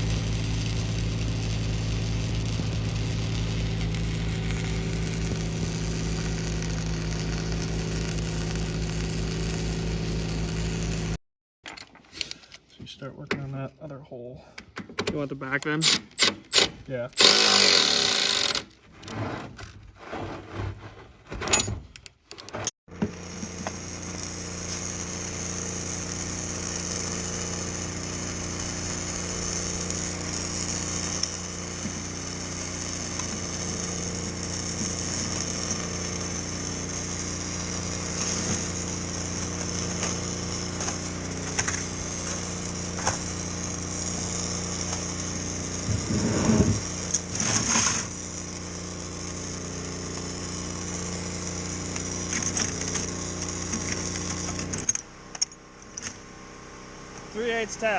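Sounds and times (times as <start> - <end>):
electric drill boring: 0.0 - 11.2, 15.8 - 18.8, 23.0 - 56.2.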